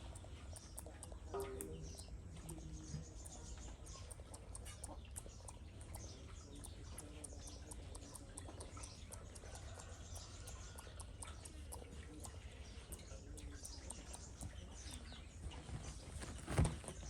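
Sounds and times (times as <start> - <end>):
monkey lip-smacking and nibbling: 0.0 - 15.2
steady low hum: 0.0 - 17.0.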